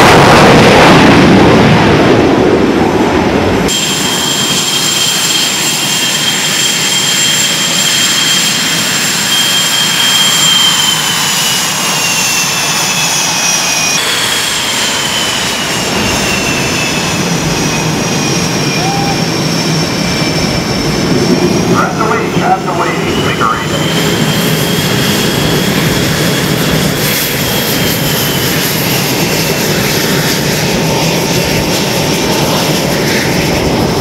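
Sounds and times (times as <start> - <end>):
jet engine whistling whine: 0.0 - 34.0
jet launching roar: 0.0 - 34.0.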